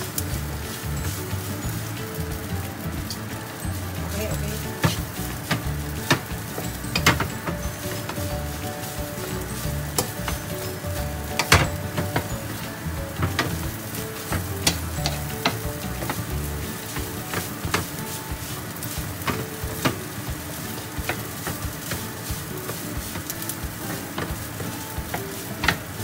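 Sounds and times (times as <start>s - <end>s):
food sizzling in a pan: 0.0s - 26.0s
spatula scraping a pan: 4.6s - 26.0s.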